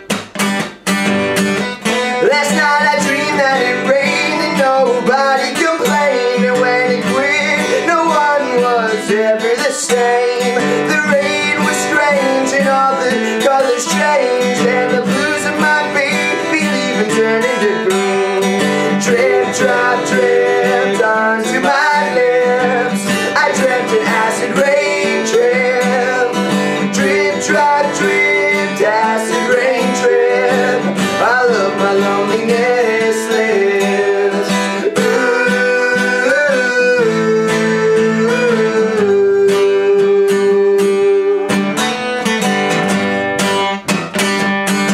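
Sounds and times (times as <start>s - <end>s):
acoustic guitar strumming: 0.0s - 44.9s
man singing: 1.9s - 41.6s.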